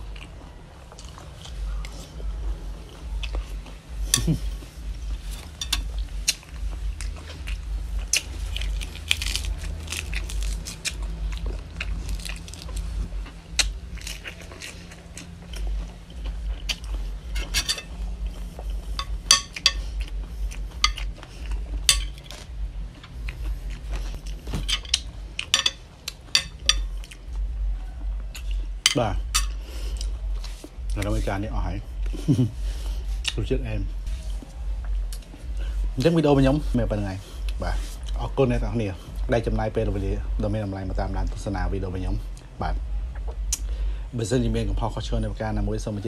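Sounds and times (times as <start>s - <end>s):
wet chewing and crunching: 0.0s - 39.3s
low rumble: 0.0s - 46.0s.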